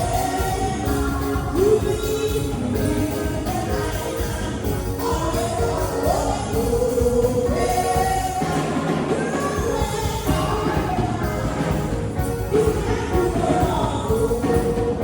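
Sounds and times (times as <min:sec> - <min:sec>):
choir and congregation singing: 0:00.0 - 0:15.0
drum kit: 0:00.0 - 0:15.0
live band playing: 0:00.0 - 0:15.0.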